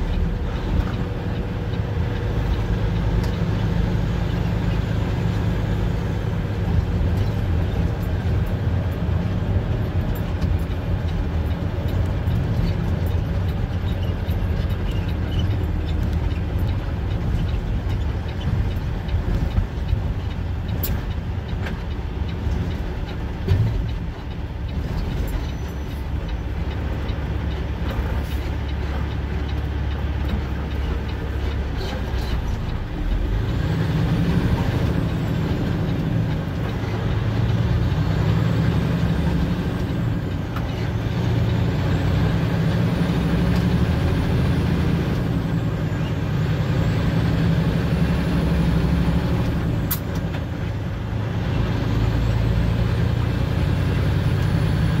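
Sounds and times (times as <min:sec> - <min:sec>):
road noise: 0:00.0 - 0:55.0
truck engine running: 0:00.0 - 0:55.0.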